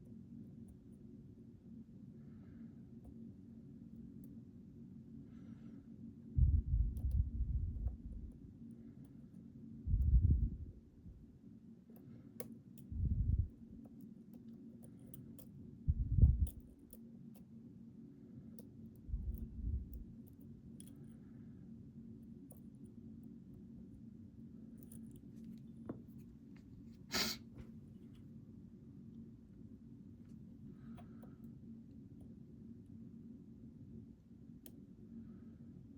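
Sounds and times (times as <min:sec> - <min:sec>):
low steady hum: 0:00.0 - 0:35.9.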